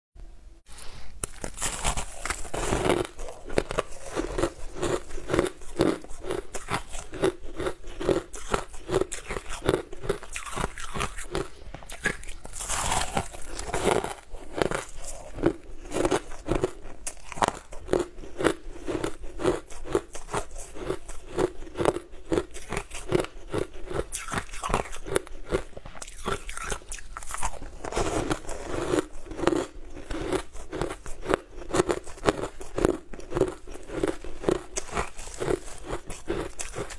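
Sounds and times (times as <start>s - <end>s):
crunching and chewing ice: 1.2s - 36.9s.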